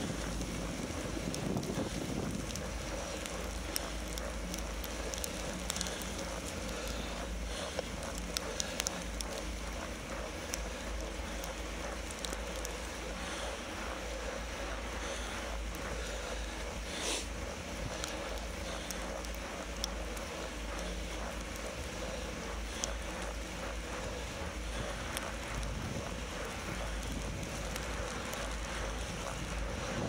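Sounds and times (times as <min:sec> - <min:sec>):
light ticks: 0:00.0 - 0:30.0
tyres rolling over snow: 0:00.0 - 0:30.0
wind rumbling on microphone: 0:00.0 - 0:30.0.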